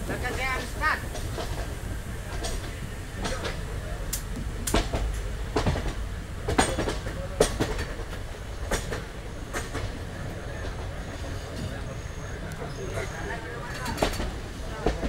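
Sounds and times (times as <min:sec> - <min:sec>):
train rumbling: 0:00.0 - 0:15.0
wheels clicking over rail joints: 0:00.0 - 0:15.0.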